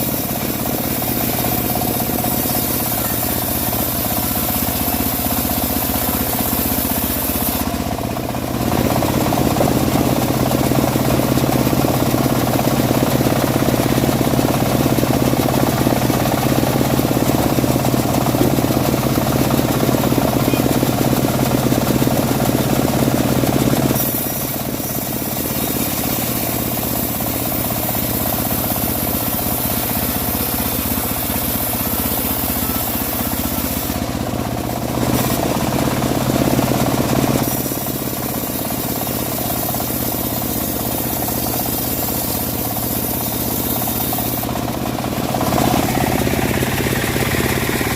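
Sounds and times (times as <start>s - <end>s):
bandsaw mill sawing wood: 0.0s - 47.9s.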